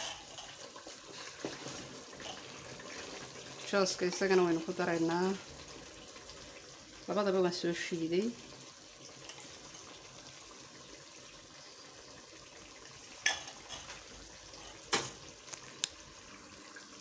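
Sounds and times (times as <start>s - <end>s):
pot bubbling and sizzling: 0.0s - 17.0s.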